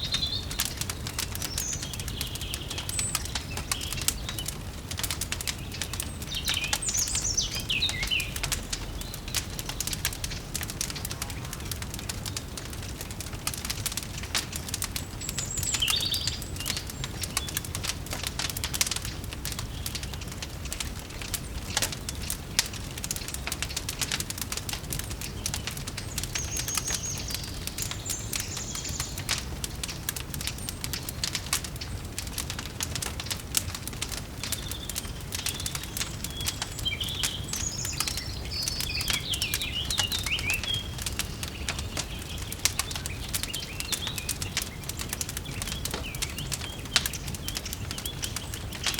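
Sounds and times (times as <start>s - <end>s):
birds chirping: 0.0s - 48.9s
fireplace crackling and popping: 0.0s - 48.9s.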